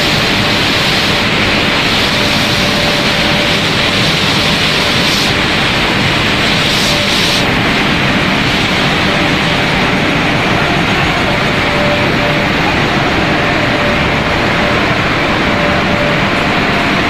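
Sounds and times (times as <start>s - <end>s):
faint steady hum: 0.0s - 17.0s
loud hiss-like machine noise: 0.0s - 17.0s.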